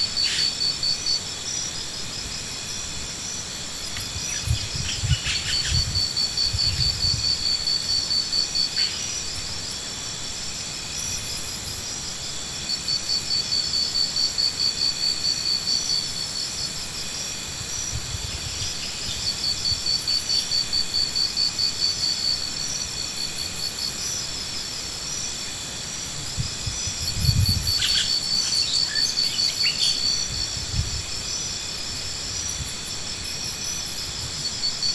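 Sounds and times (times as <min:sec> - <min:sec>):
high insect drone: 0:00.0 - 0:34.9
insects chirping in pulses: 0:00.0 - 0:34.9.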